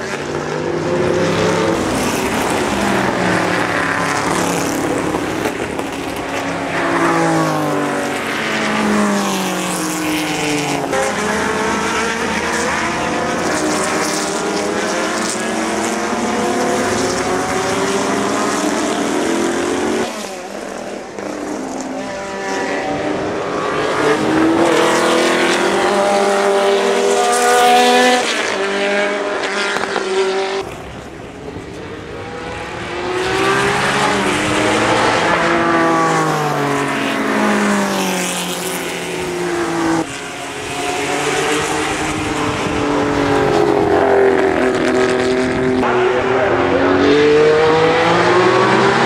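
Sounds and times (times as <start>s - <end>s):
race car engines revving past: 0.0s - 49.0s.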